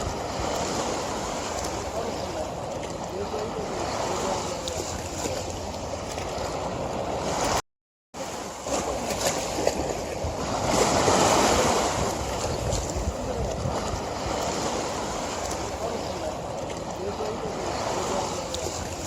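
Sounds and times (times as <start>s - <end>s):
river water rushing: 0.0s - 7.6s, 8.2s - 19.0s.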